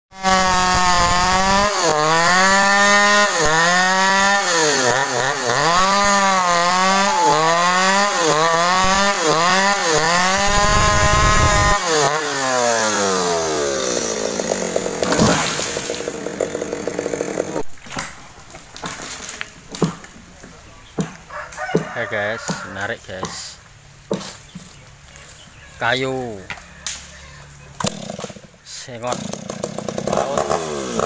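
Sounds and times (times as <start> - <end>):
chainsaw cutting wood: 0.1 - 20.2, 21.0 - 23.4, 26.5 - 31.0.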